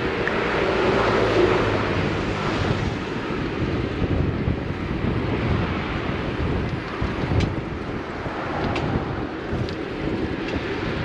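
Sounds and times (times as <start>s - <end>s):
road traffic: 0.0s - 11.0s
wind rushing over microphone: 0.0s - 11.0s.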